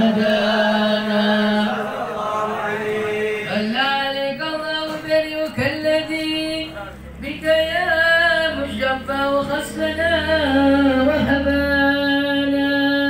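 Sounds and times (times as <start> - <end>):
men chanting unaccompanied: 0.0 - 13.0.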